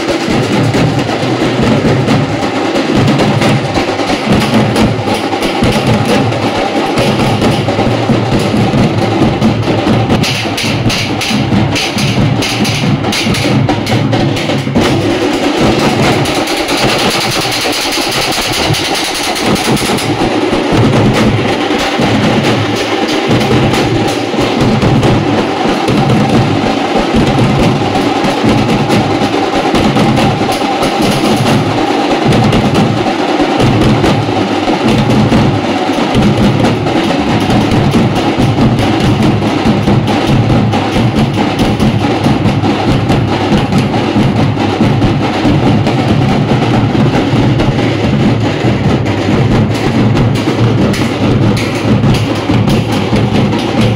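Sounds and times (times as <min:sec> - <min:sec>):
drummers beating metal drums: 0:00.0 - 0:53.9.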